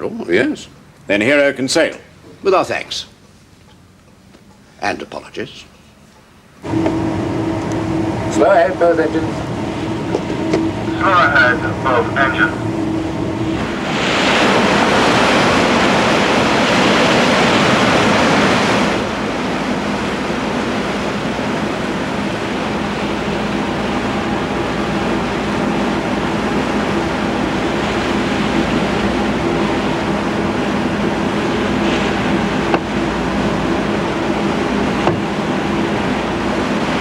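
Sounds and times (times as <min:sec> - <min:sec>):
ship engines droning: 0:05.5 - 0:37.0
sea and wind rushing: 0:06.6 - 0:37.0.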